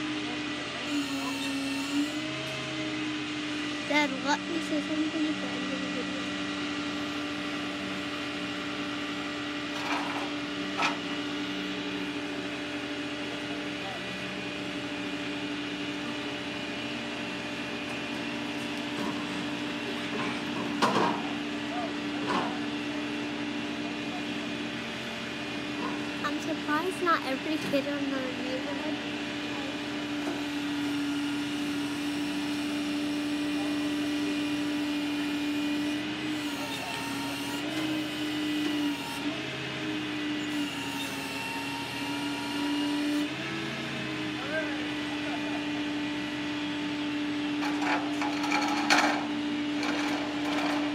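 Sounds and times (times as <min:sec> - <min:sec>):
truck engine hum with low whine: 0:00.0 - 0:50.9.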